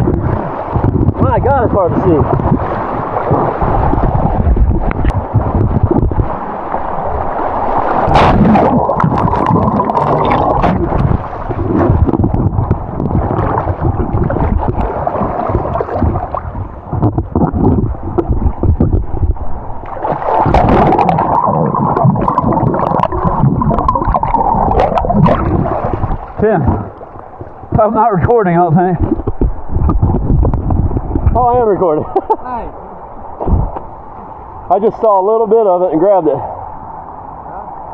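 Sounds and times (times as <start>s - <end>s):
river water rushing underwater: 0.0s - 31.5s.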